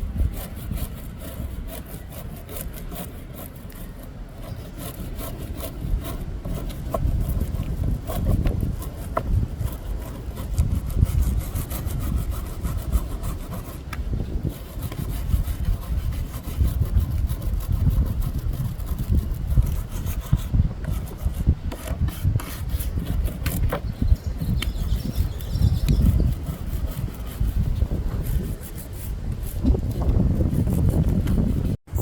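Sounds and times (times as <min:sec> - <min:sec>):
hand tool scraping wood: 0:00.0 - 0:31.8.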